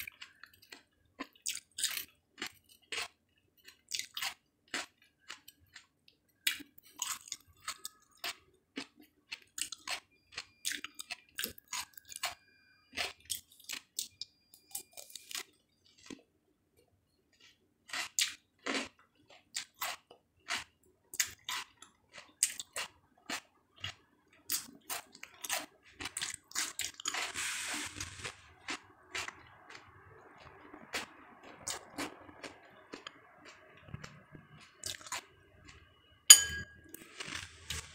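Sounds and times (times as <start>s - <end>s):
crunchy chewing of fruit: 0.0s - 37.9s.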